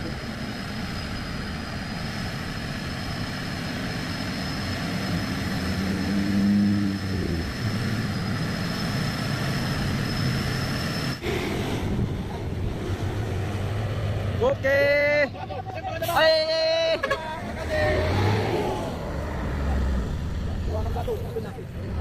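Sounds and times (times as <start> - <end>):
heavy truck engines running: 0.0 - 22.0.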